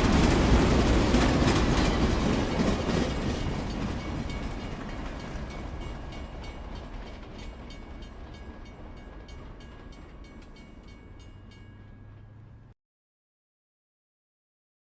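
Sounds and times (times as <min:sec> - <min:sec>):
wheels clicking over rail joints: 0:00.0 - 0:12.7
train rumbling: 0:00.0 - 0:12.8.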